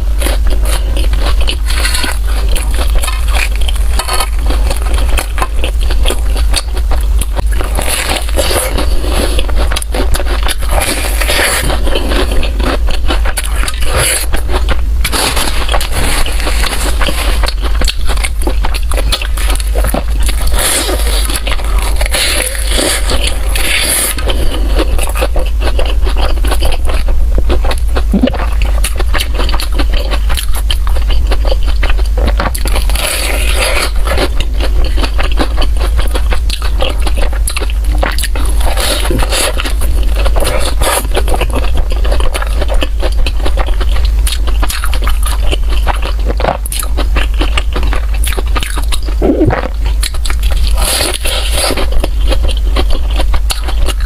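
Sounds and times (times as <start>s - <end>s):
person biting and chewing food: 0.0s - 54.0s
steady low hum: 0.0s - 54.0s.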